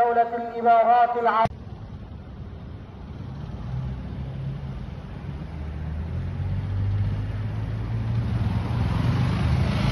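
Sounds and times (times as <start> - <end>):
motorcycle engine approaching: 1.7 - 9.9.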